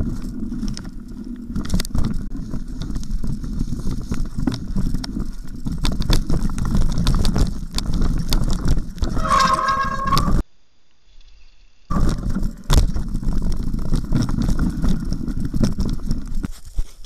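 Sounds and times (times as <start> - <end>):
bike rattling and clacking: 0.0 - 10.4, 11.9 - 17.0
bike tyres rolling over dirt: 0.0 - 10.4, 11.9 - 17.0.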